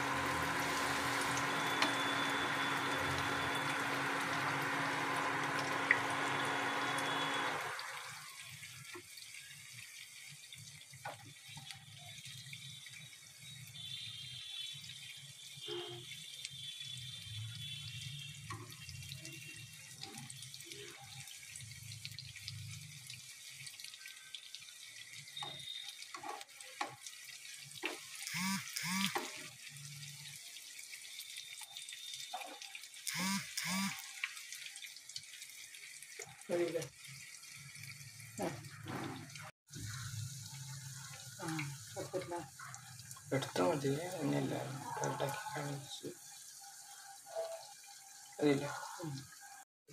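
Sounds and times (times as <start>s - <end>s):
hot oil sizzling: 0.0s - 49.9s.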